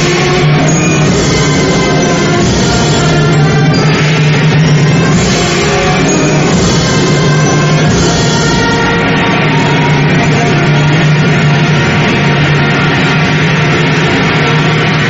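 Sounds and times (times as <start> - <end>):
band playing a funeral march: 0.0 - 15.0.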